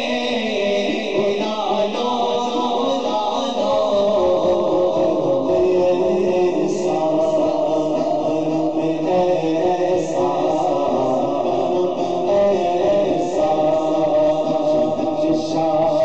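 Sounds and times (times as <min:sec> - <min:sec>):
man singing through microphone: 0:00.0 - 0:16.0.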